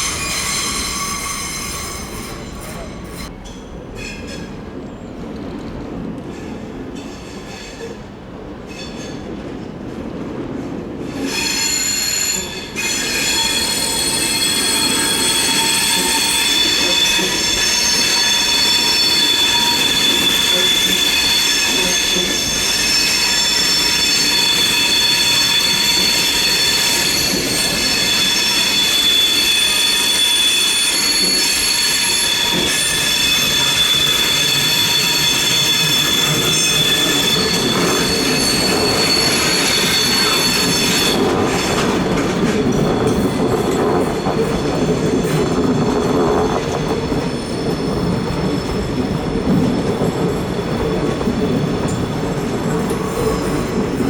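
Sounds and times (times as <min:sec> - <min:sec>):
train wheels squealing: 0:00.0 - 0:04.6, 0:11.1 - 0:54.0
train rumble: 0:00.0 - 0:54.0.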